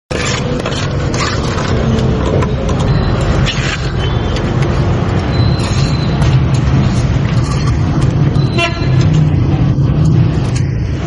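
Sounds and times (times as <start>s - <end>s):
road traffic rumble: 0.1s - 11.0s.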